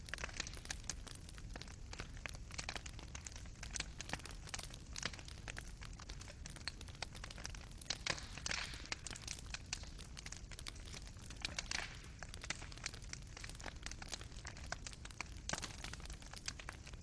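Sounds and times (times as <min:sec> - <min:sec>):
coals popping and snapping: 0:00.0 - 0:17.0
low fire rumble: 0:00.0 - 0:17.0.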